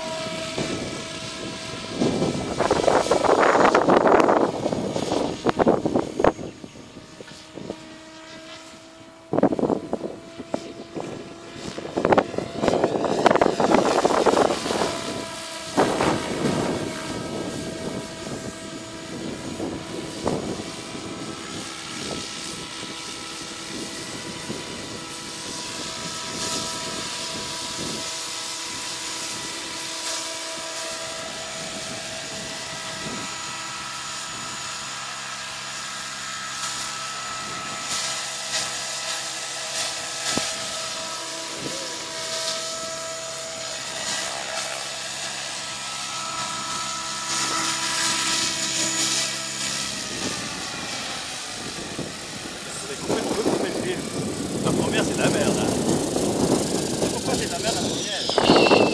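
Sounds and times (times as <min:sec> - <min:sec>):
model helicopter rotor whine: 0:00.0 - 0:58.9.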